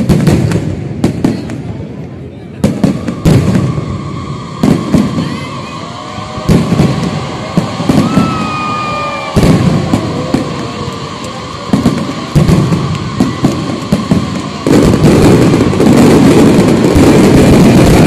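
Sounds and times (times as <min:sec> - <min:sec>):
fireworks bangs: 0:00.0 - 0:18.0
fireworks crackling barrage: 0:00.0 - 0:18.0
high falling whistle: 0:03.0 - 0:18.0.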